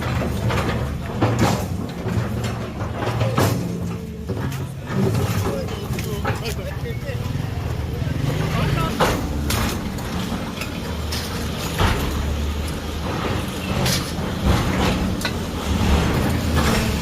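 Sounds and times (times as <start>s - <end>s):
debris knocking and clattering: 0.0s - 17.0s
heavy diesel machinery droning: 0.0s - 17.0s.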